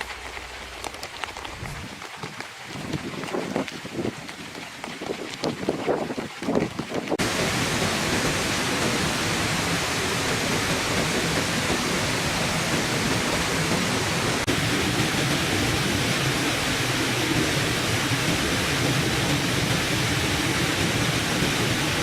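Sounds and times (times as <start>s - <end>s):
falling water rushing: 0.0s - 22.0s.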